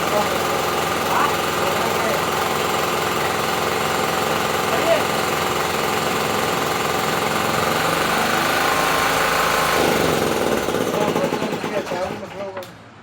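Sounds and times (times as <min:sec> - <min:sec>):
brush cutter engine running: 0:00.0 - 0:12.3.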